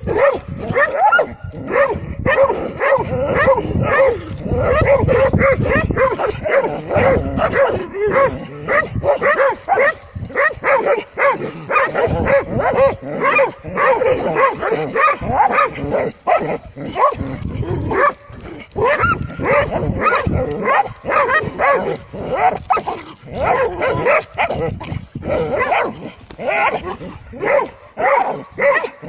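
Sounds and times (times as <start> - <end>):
dogs barking: 0.0 - 29.0.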